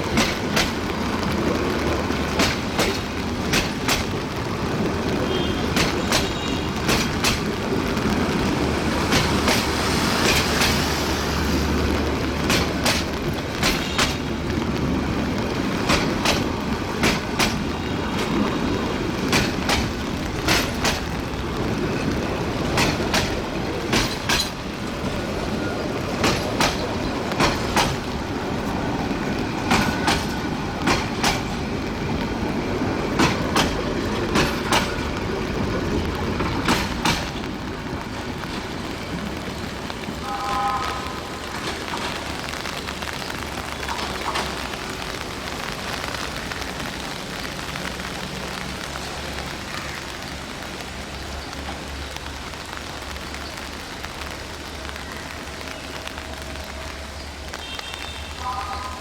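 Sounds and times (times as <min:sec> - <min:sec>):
train wheels clacking over rail joints: 0:00.0 - 0:52.5
rain hiss: 0:00.0 - 0:59.0.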